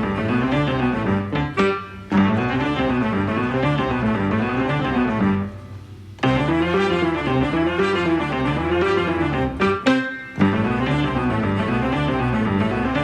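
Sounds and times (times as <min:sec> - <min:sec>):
bouncy instrumental music: 0:00.0 - 0:13.0.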